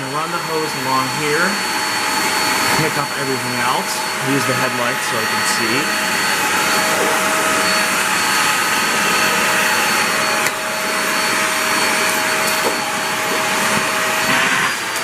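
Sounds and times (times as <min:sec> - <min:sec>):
vacuum cleaner motor whine: 0:00.0 - 0:15.0.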